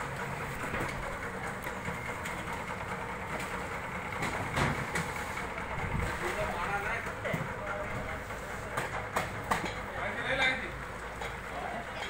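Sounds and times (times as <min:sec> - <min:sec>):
machinery rumbling: 0:00.0 - 0:12.0.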